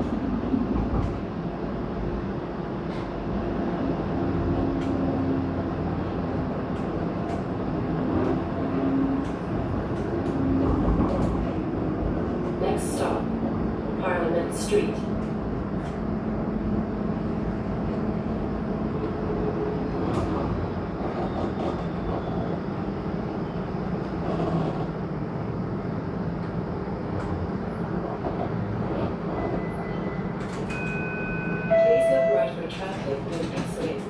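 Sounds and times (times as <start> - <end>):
streetcar wheels rumbling on rails: 0.0 - 34.0.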